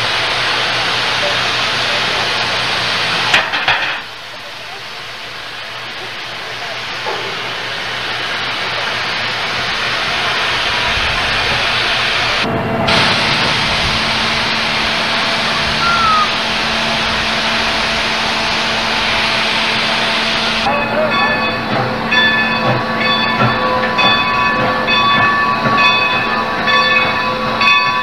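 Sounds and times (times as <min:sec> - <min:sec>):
steam train rushing hiss: 0:00.0 - 0:28.0.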